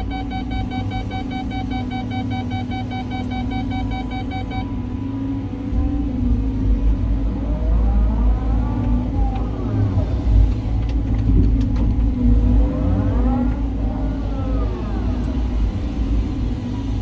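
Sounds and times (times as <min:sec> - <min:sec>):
hydraulic whines: 0:00.0 - 0:17.0
excavator diesel rumble: 0:03.0 - 0:17.0.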